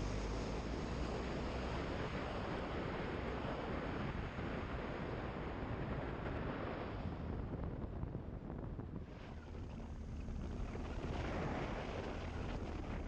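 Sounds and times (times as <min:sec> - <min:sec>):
wind rushing on microphone: 0:00.6 - 0:13.0.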